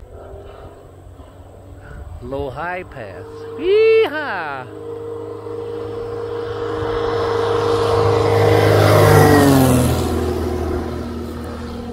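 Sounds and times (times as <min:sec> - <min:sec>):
light plane engine and propeller: 0:00.0 - 0:11.9.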